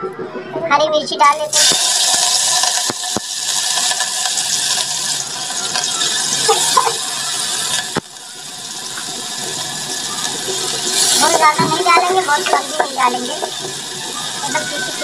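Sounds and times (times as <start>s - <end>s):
chillies sizzling in hot oil: 1.2s - 15.0s.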